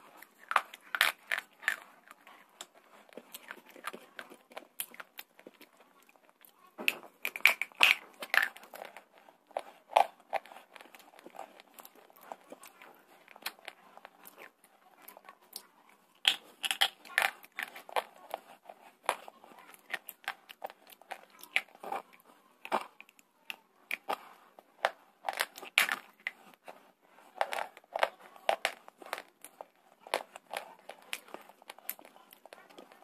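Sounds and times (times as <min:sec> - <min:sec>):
crunchy chewing: 0:00.0 - 0:33.0.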